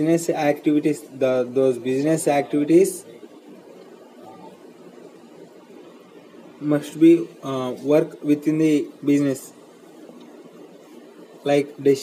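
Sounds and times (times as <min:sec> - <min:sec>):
room tone hum and hiss: 0:00.0 - 0:12.0.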